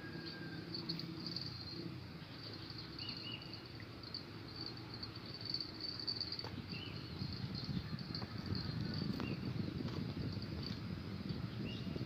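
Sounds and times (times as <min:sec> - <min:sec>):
insects trilling: 0:00.0 - 0:10.4.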